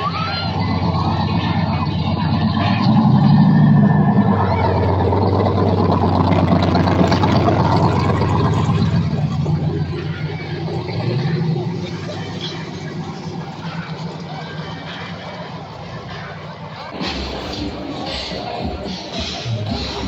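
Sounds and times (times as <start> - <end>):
car engine running and revving: 0.0 - 20.0.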